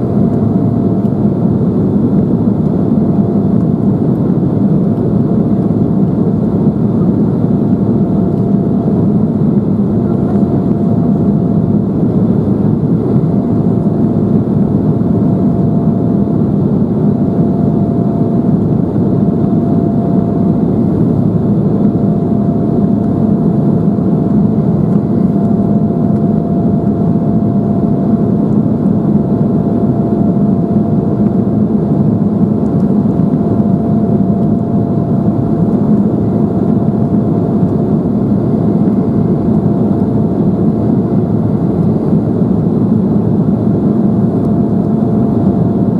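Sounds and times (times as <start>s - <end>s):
faint steady whine: 0.0s - 45.9s
jet engines and airflow rumble: 0.0s - 45.9s.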